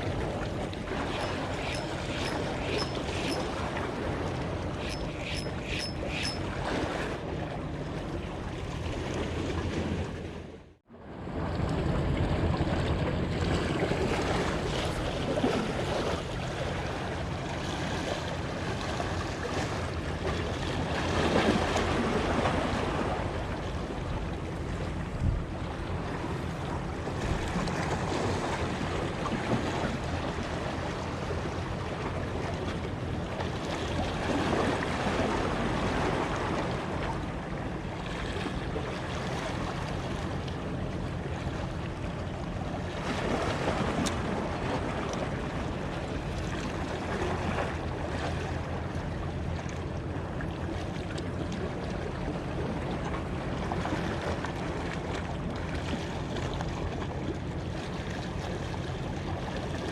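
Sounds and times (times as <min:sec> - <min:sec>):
low steady hum: 0:00.0 - 0:59.9
sea water lapping: 0:00.0 - 0:59.9.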